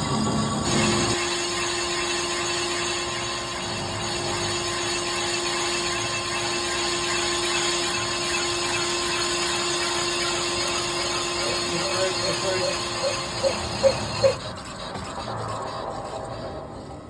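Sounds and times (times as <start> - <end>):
lathe machining: 0.0 - 17.0.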